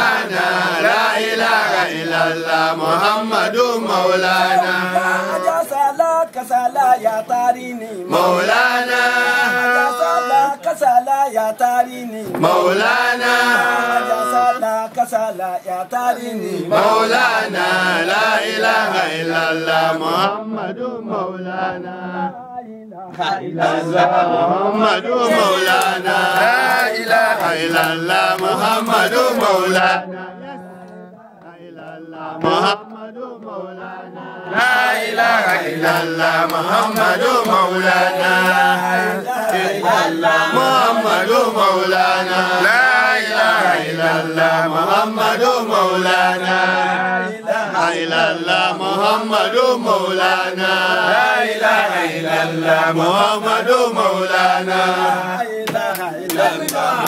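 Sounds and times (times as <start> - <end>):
voices chanting: 0.0 - 22.4, 23.1 - 57.0.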